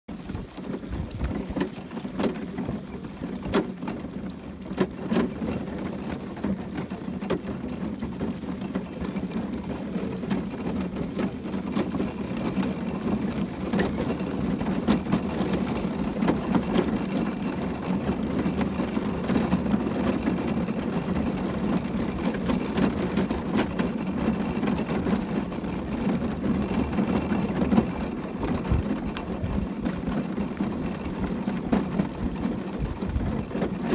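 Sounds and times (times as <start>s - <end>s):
horse-drawn carriage rattling: 0.1s - 33.9s.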